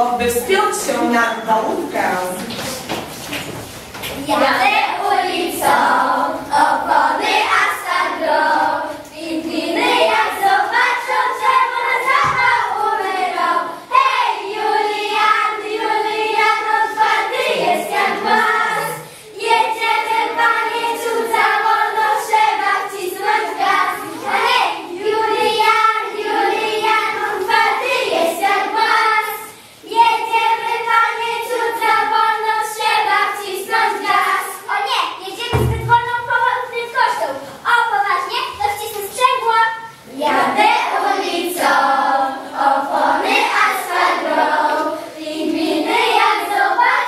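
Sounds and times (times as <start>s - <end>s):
children singing in unison: 4.2s - 34.8s, 39.8s - 47.0s.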